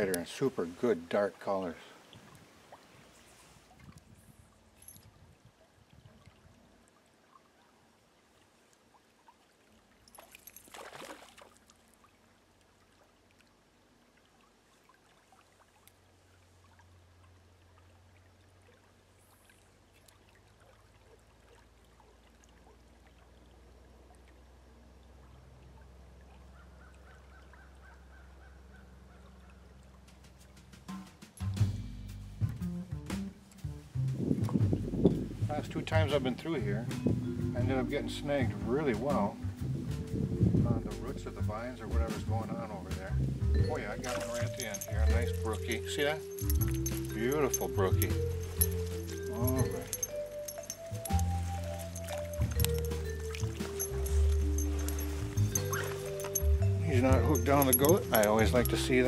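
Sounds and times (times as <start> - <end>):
faint stream trickling: 0.0 - 59.0.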